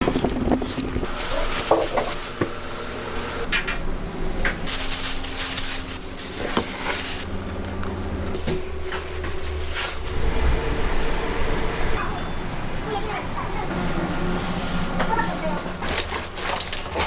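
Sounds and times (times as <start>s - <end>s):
kitchen background noise: 0.0s - 10.2s, 12.0s - 17.0s.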